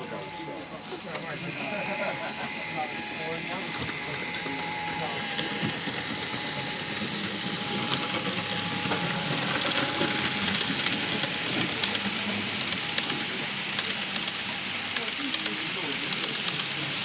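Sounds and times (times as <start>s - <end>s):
model train hissing along track: 0.0s - 17.0s
wheels clicking on rails: 0.0s - 17.0s.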